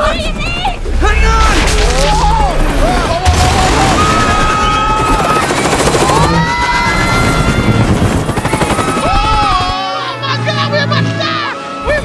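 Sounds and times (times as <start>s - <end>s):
helicopter rotors chopping: 0.0s - 10.0s.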